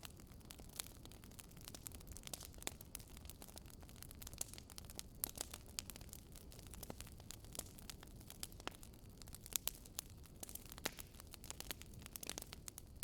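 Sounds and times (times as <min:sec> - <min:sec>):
burning wood crackling and popping: 0:00.0 - 0:13.0
campfire flames rumbling: 0:00.0 - 0:13.0.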